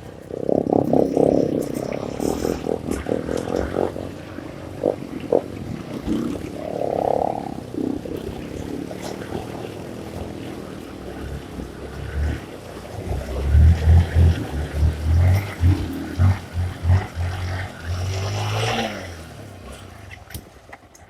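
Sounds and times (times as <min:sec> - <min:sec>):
dirt bike engine running: 0:00.0 - 0:19.9.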